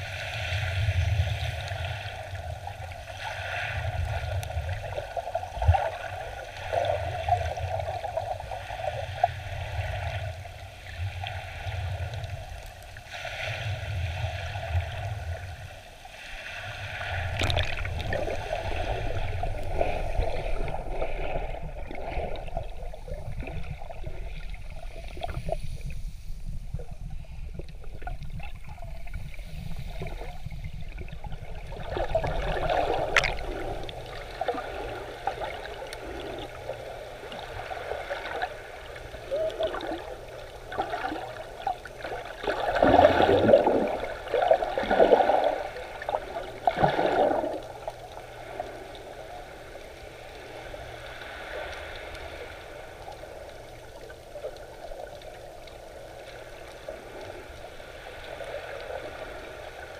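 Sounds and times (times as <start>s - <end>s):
low underwater rumble: 0.0s - 59.9s
underwater sloshing and bubbling: 0.0s - 59.9s.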